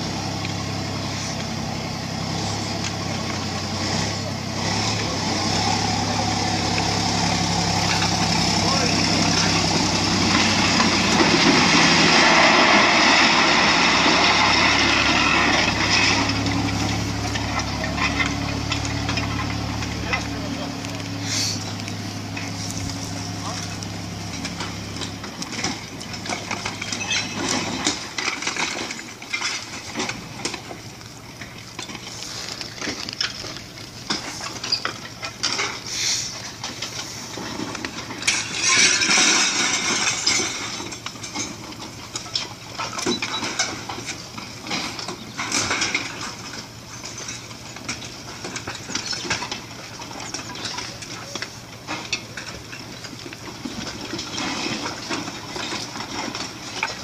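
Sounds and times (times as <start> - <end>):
crumbling crash: 0.0 - 57.0
masonry and timber cracking: 0.0 - 57.0.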